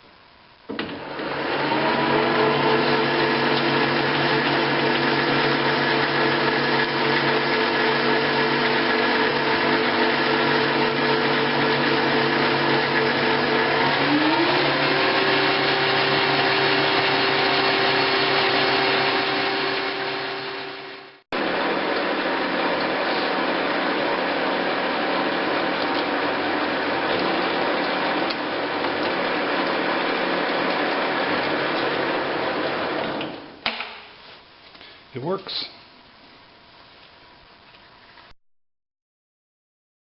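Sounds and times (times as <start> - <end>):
lathe motor and gear whine: 0.7 - 33.4.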